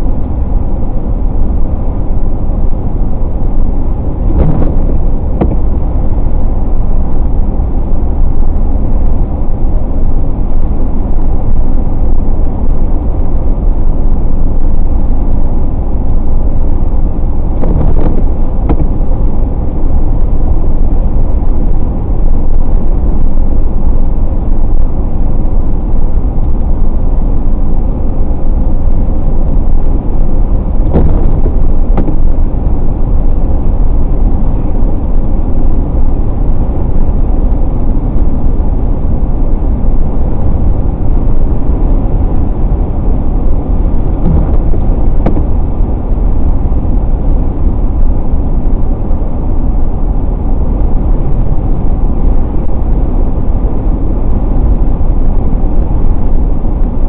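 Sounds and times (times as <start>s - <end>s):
car driving on wet road: 0.0s - 57.0s.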